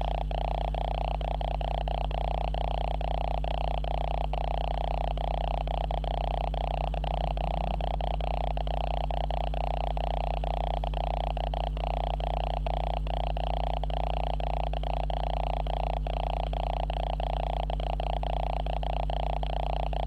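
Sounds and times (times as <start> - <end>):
electrical buzzing hum: 0.0 - 20.0.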